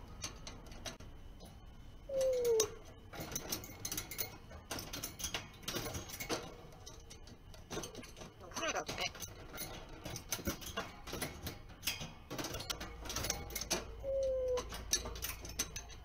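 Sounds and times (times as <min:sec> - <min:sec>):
cage bars clicking and rattling: 0:00.0 - 0:16.0.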